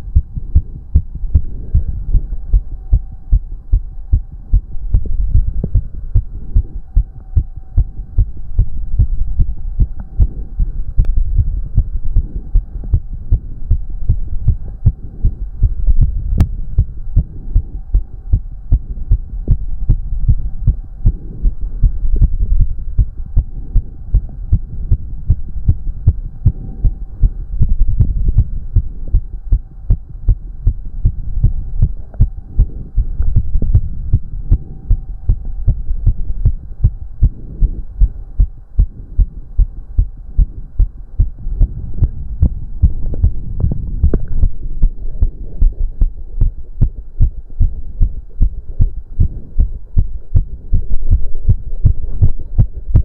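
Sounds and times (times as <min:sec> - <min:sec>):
heart beating fast: 0:00.0 - 0:53.0.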